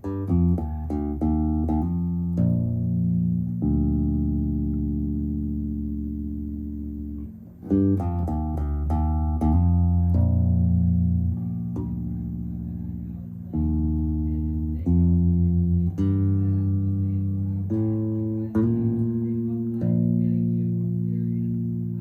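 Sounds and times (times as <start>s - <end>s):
electric bass guitar notes: 0.0s - 22.0s.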